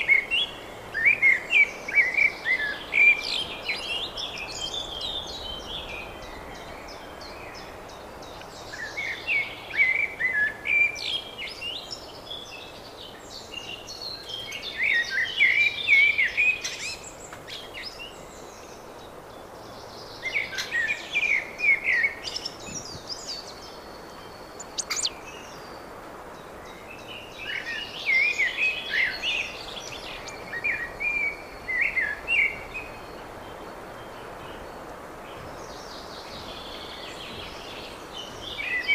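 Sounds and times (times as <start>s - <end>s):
songbird singing: 0.0s - 38.9s
steady background hiss: 0.0s - 38.9s.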